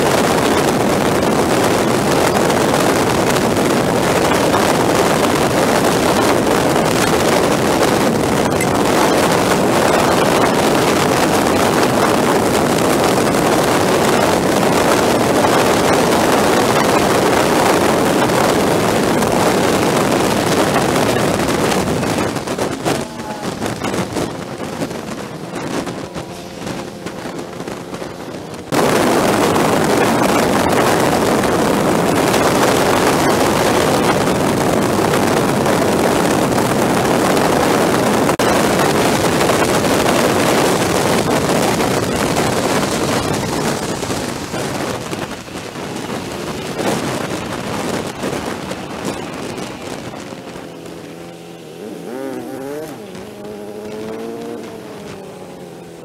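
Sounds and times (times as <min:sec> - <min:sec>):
motorcycle engine hum: 0:00.0 - 0:56.0
road noise: 0:00.0 - 0:56.0
wind rushing over microphone: 0:00.0 - 0:56.0.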